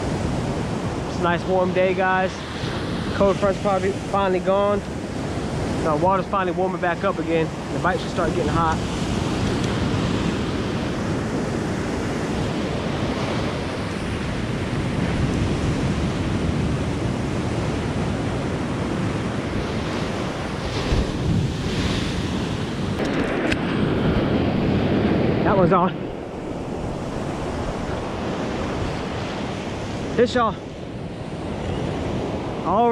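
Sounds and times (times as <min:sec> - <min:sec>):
surf breaking on a beach: 0:00.0 - 0:32.9
wind buffeting the microphone: 0:00.0 - 0:32.9.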